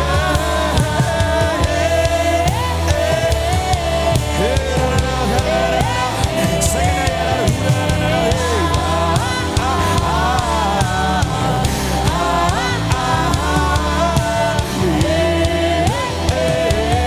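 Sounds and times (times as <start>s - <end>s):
bass: 0.0s - 17.0s
person singing: 0.0s - 17.0s
steady drum beat: 0.0s - 17.0s.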